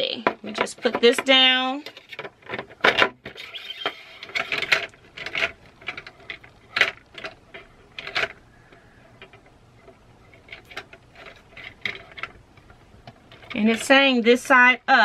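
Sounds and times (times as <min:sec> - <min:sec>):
plastic trays clacking: 0:00.0 - 0:14.6.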